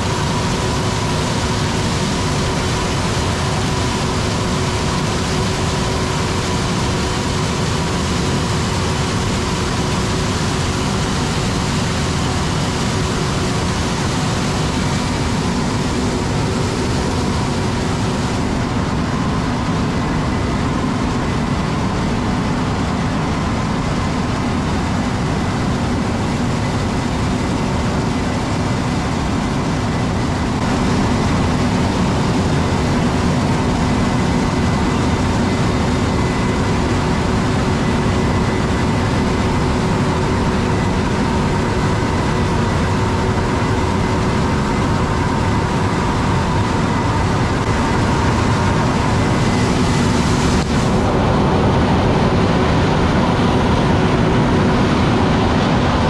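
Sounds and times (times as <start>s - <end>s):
faint steady whining: 0.0s - 56.0s
heavy machinery engine drone: 0.0s - 56.0s.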